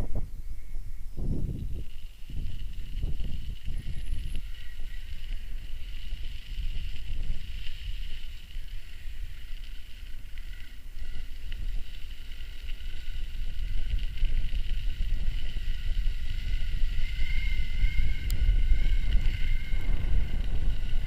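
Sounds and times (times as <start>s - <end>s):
high-pitched whine: 0.0s - 21.0s
wind buffeting microphone: 0.0s - 21.0s.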